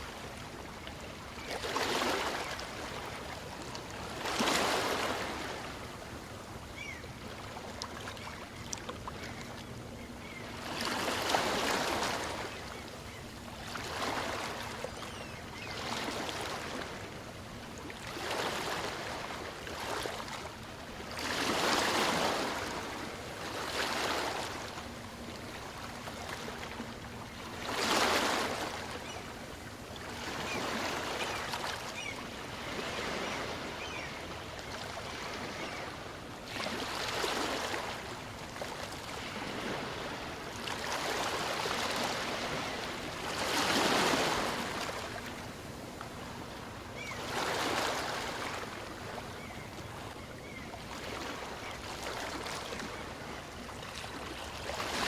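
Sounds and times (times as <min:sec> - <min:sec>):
small waves breaking on beach: 0:00.0 - 0:09.5, 0:10.2 - 0:55.0.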